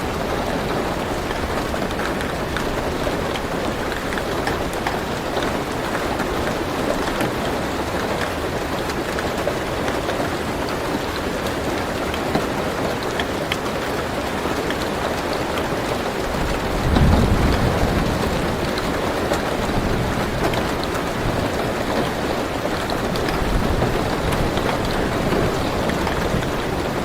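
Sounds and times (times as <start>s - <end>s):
rain drumming on a car roof: 0.0s - 27.0s.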